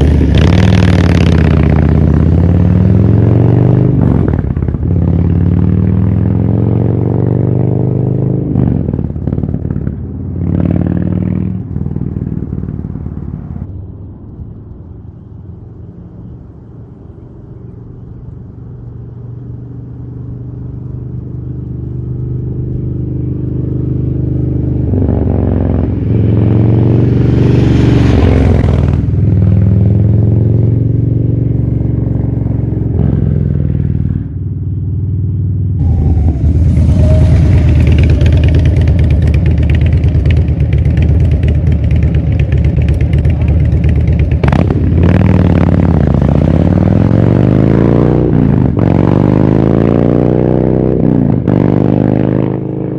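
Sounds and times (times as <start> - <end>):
motorcycle engine revving: 0.0 - 13.6, 19.6 - 52.9.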